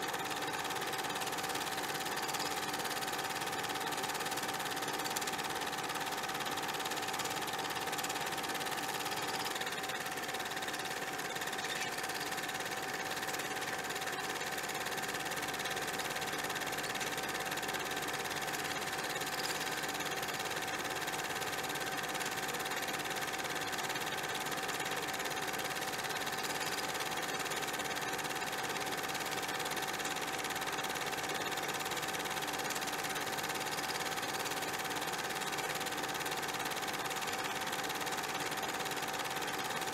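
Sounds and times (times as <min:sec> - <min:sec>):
small motor whirring: 0:00.0 - 0:39.9.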